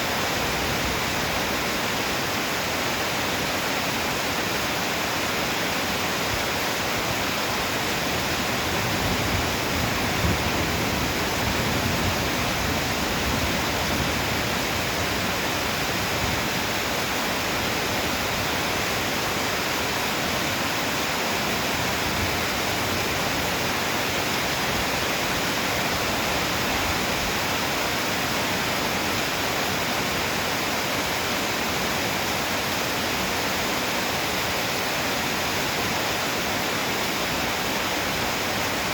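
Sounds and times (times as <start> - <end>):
torrential rain: 0.0 - 38.9.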